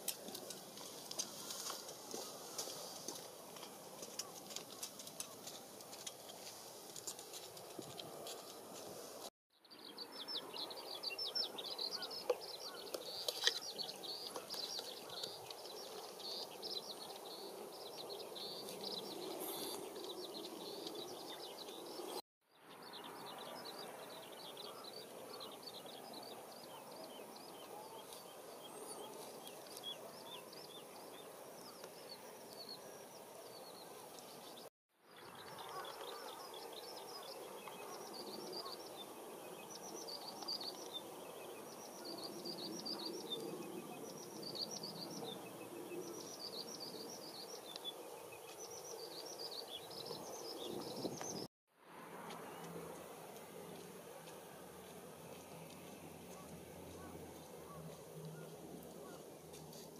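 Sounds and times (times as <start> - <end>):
small birds chirping: 0.0 - 51.5, 52.3 - 59.9.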